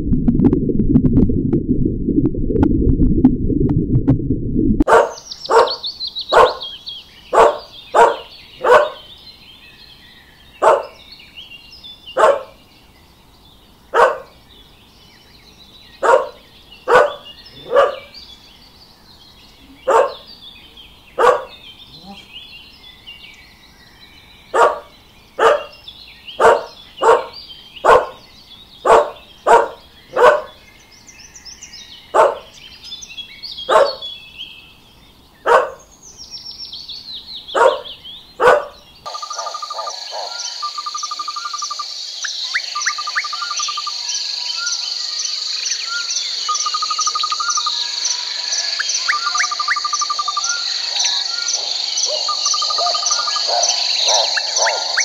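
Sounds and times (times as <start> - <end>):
background birdsong: 4.9 - 55.0.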